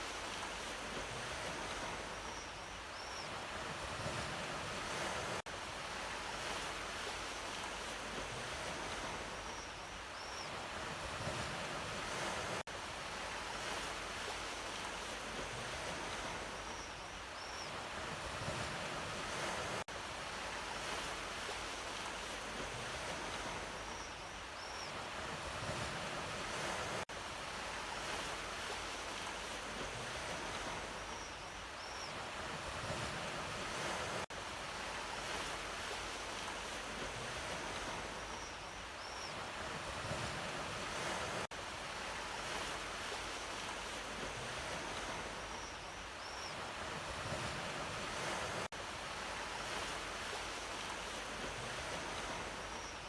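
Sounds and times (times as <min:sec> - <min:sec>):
sea waves washing on shore: 0:00.0 - 0:02.4, 0:03.3 - 0:09.7, 0:10.5 - 0:16.9, 0:17.7 - 0:53.0.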